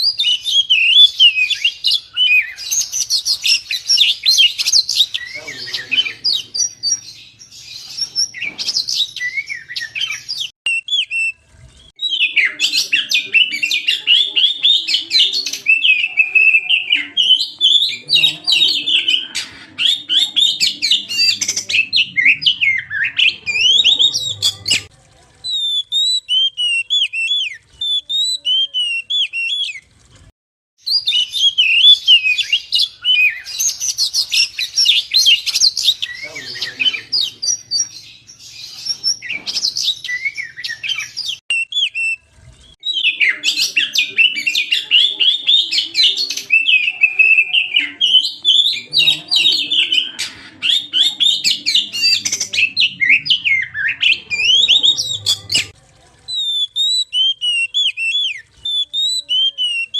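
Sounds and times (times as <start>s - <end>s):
bird singing chirps and trills: 0.0s - 24.9s, 30.8s - 59.9s.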